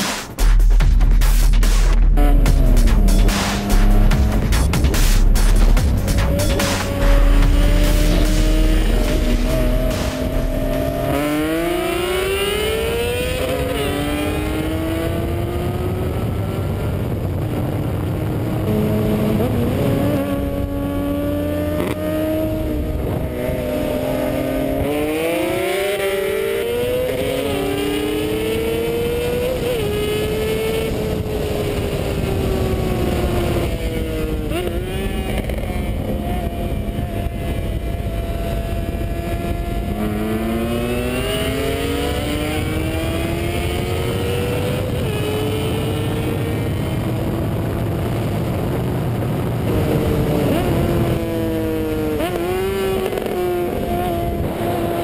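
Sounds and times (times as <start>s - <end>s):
motorcycle engine accelerating: 0.0s - 55.0s
car engine accelerating: 1.2s - 55.0s.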